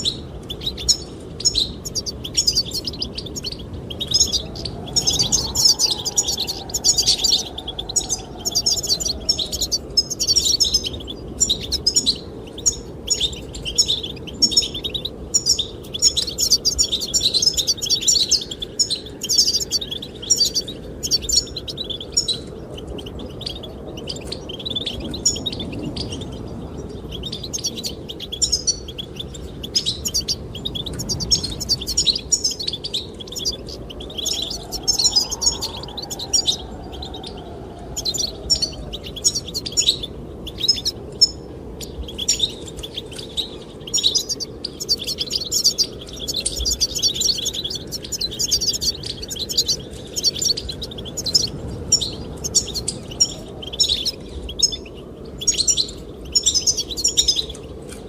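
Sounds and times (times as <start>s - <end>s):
goldfinches twittering: 0.0s - 58.0s
low rush of wind: 0.0s - 58.0s.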